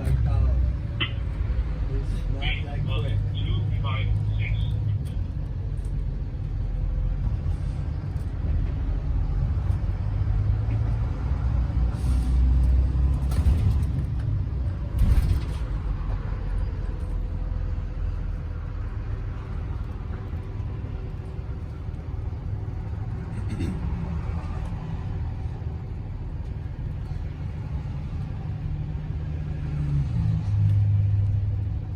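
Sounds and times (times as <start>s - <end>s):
bus engine rumbling: 0.0s - 31.9s.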